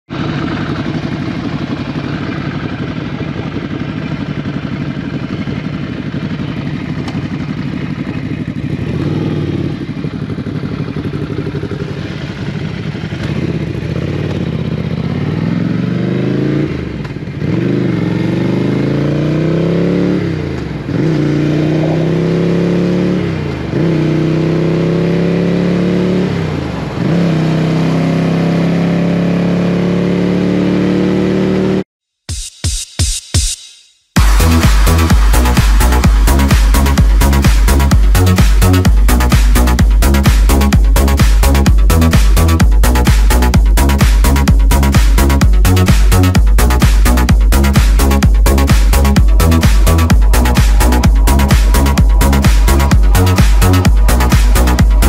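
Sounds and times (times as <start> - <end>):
motorcycle engine accelerating: 0.1 - 31.9, 34.1 - 55.0.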